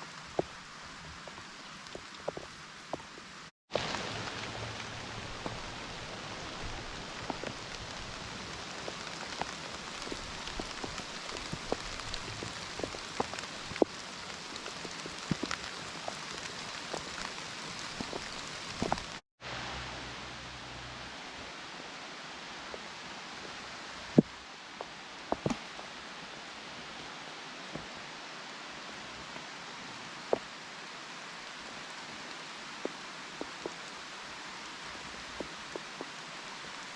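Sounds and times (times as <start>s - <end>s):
rain drops tapping on a surface: 0.0s - 19.2s, 22.7s - 25.9s, 28.7s - 36.9s.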